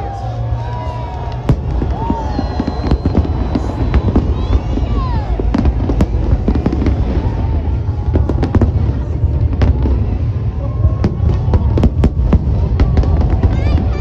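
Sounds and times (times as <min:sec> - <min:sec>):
fireworks cracks and bangs: 0:00.0 - 0:14.0.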